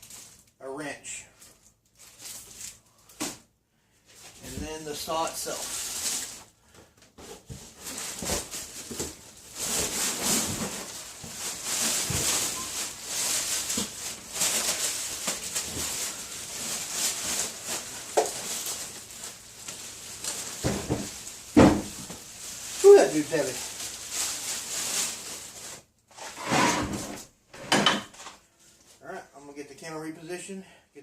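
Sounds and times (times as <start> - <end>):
packing material rustling and scraping: 0.0 - 0.6, 1.4 - 3.4, 4.0 - 27.3.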